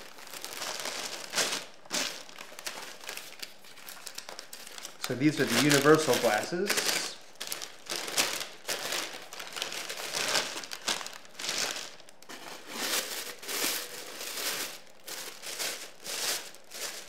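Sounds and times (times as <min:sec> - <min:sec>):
packing paper crinkling: 0:00.0 - 0:17.0.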